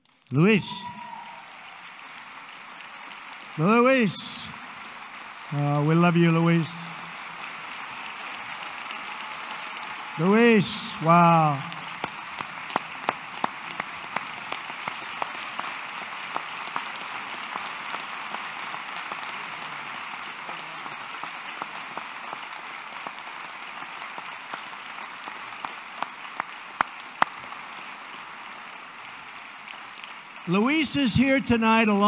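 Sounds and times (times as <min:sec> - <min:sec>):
loud individual claps: 0:00.4 - 0:30.6
audience applauding: 0:00.4 - 0:32.0.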